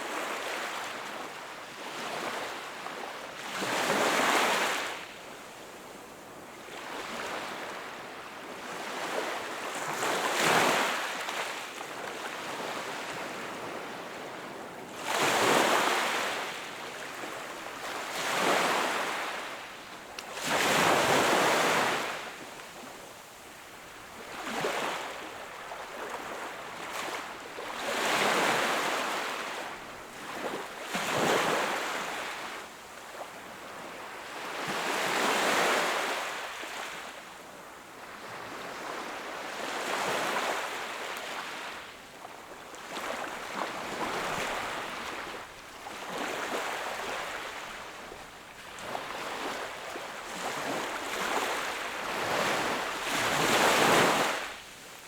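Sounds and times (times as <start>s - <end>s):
small ocean waves breaking on shore: 0.0s - 55.0s.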